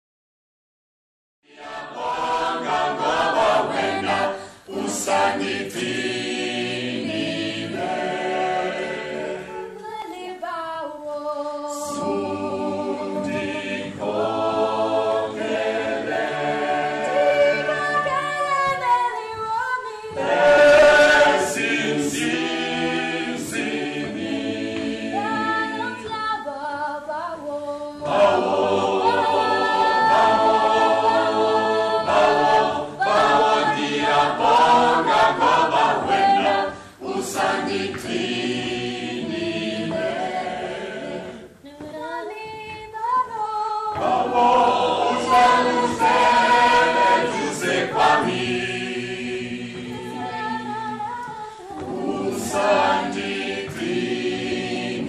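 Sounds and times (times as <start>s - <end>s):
choir singing a cappella: 1.4s - 55.0s.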